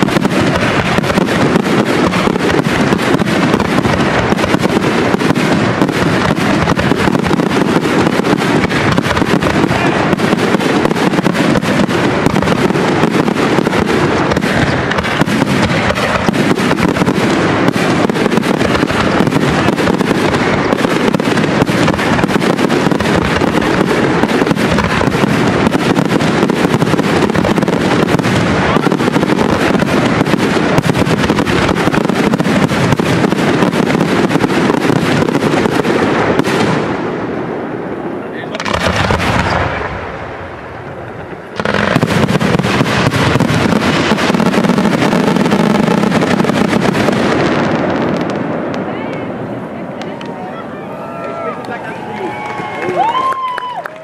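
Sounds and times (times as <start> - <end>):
firework shells bursting: 0.0 - 37.2, 38.5 - 48.8.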